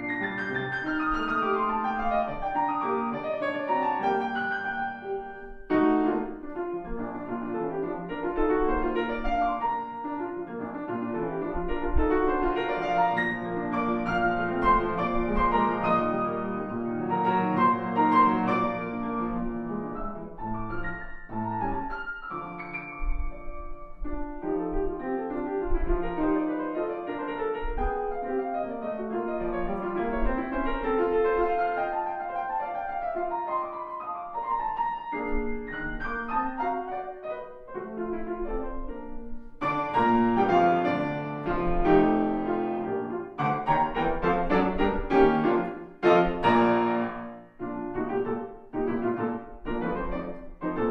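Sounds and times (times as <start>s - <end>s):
solo grand piano playing: 0.0s - 50.9s.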